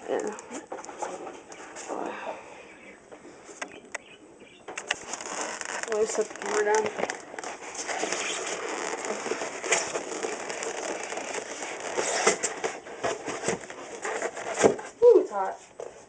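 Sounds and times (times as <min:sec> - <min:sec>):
rustling handling noise: 0:00.0 - 0:02.1, 0:04.7 - 0:16.0.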